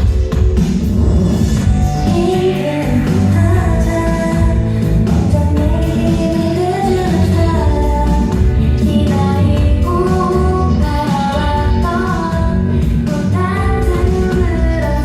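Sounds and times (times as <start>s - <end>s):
pop song with female singing: 0.0s - 15.0s.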